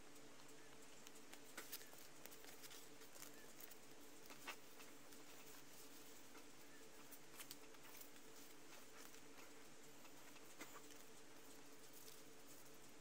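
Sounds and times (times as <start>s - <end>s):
faint steady hum: 0.0s - 13.0s
paper rustling and ticking: 0.0s - 13.0s.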